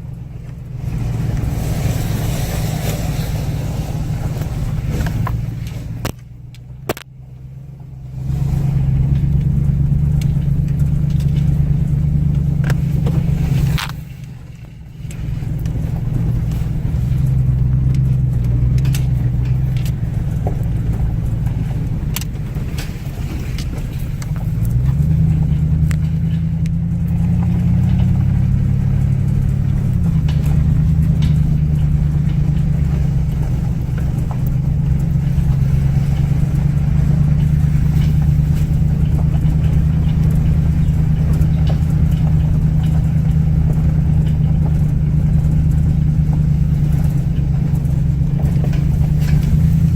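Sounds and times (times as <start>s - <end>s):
car engine driving: 0.0s - 49.9s
road noise: 0.0s - 49.9s.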